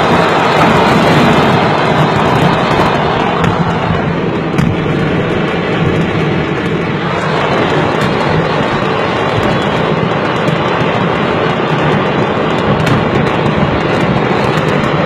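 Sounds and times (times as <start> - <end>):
fireworks crackling: 0.0 - 15.0
fireworks detonating: 0.0 - 15.0.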